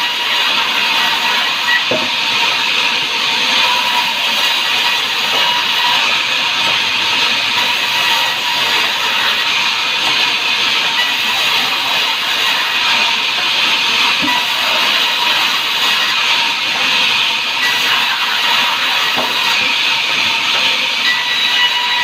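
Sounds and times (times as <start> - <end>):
sawmill saw running: 0.0 - 22.0.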